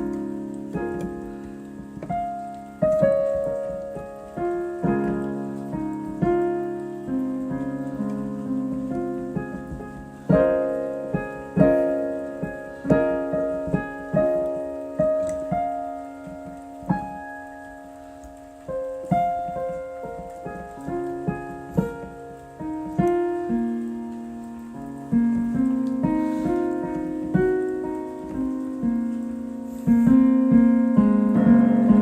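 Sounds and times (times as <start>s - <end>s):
solo piano playing: 0.0s - 32.0s.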